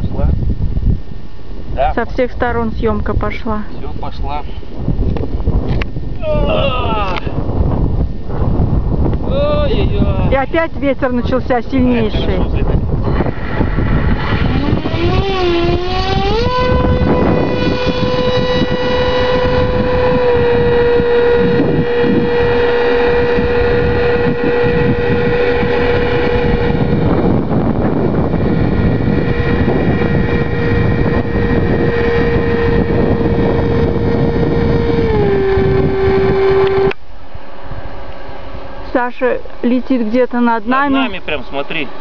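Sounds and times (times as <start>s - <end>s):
wind buffeting microphone: 0.0s - 42.0s
electric propeller motor whine: 4.9s - 42.0s.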